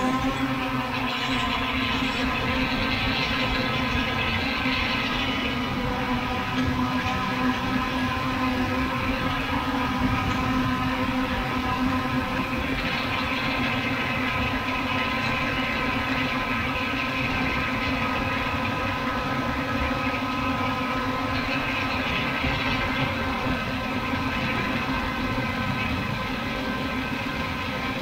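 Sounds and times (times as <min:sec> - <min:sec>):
drone propellers buzzing whine: 0:00.0 - 0:28.0.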